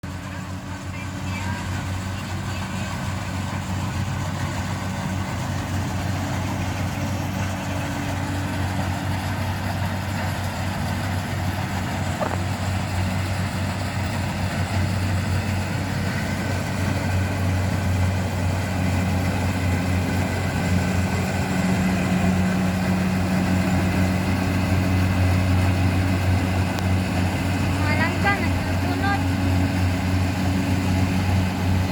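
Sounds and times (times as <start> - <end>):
harvesting machine engine humming: 0.0 - 31.9.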